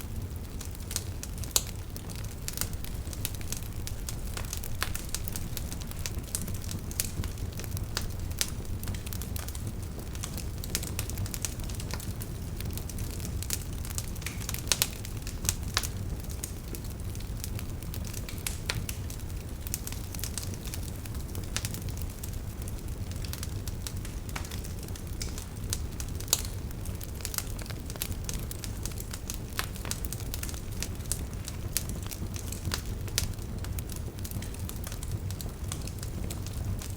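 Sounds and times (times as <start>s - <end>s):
fire crackles and pops: 0.0s - 36.9s
fire rumbling: 0.0s - 36.9s.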